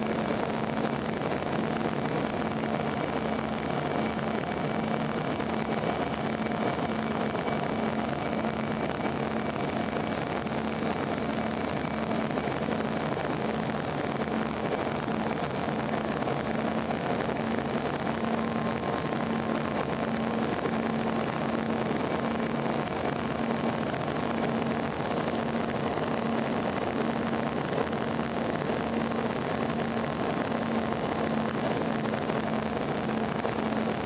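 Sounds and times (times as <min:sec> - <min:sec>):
airflow rushing in jet cabin: 0:00.0 - 0:34.0
jet engine drone: 0:00.0 - 0:34.0
low pulsing hum: 0:00.0 - 0:34.0.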